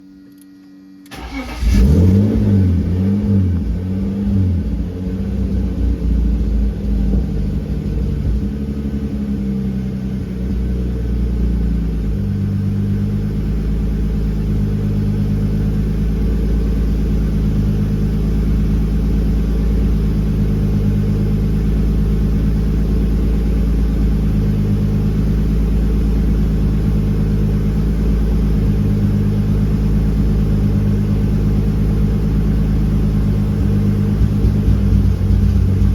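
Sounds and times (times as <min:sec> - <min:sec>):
car engine idling unevenly: 0:01.1 - 0:35.9.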